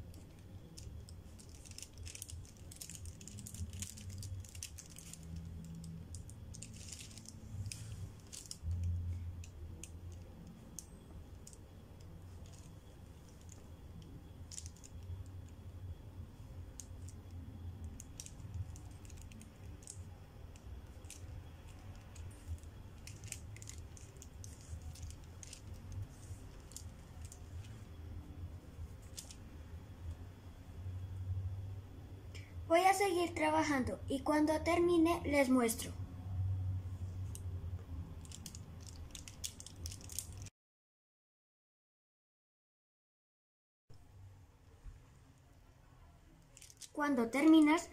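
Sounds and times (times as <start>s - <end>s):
low steady hum: 0.0s - 40.5s, 43.9s - 47.9s.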